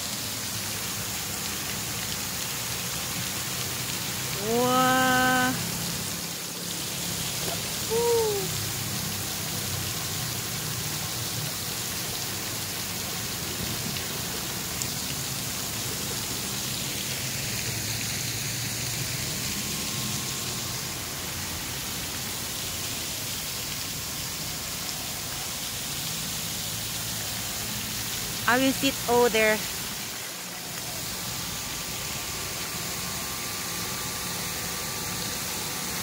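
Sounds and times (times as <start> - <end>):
fountain water splashing: 0.0 - 36.0.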